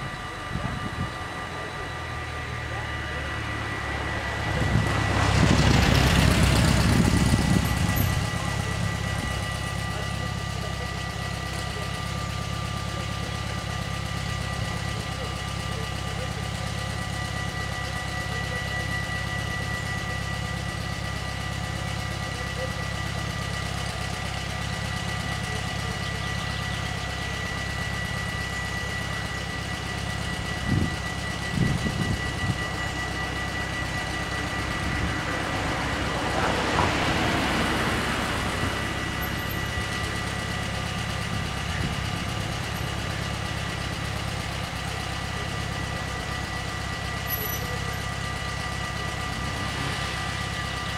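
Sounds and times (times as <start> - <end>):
car engine idling: 0.0 - 50.9
level-crossing warning bells: 0.0 - 50.9.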